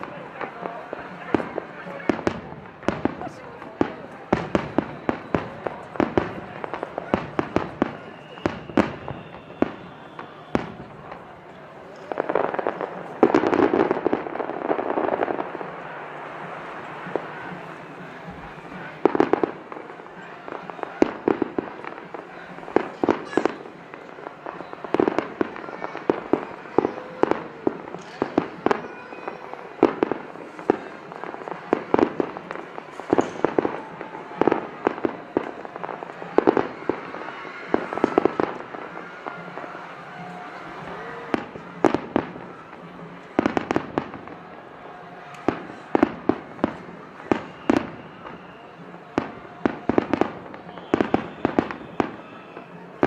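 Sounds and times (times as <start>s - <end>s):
fireworks bangs: 0.0s - 53.0s
onlookers' voices: 0.0s - 53.0s.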